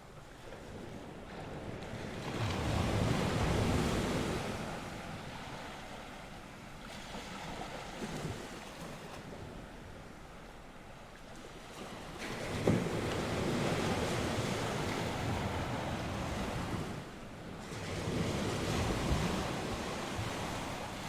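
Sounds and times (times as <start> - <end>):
wind rumbling on microphone: 0.0 - 11.1, 11.8 - 21.0
waves breaking on shore: 0.0 - 21.0.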